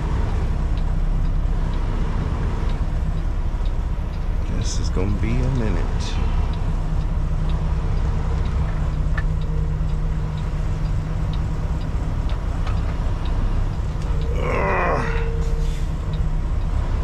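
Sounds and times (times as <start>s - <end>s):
faint regular ticking: 0.0s - 17.0s
truck diesel engine rumbling: 0.0s - 17.0s.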